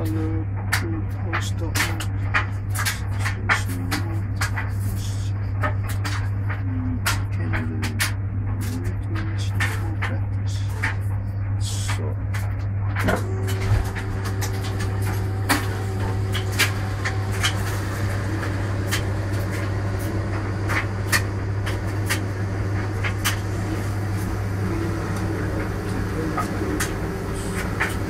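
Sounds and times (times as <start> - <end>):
washing machine hum: 0.0 - 28.0.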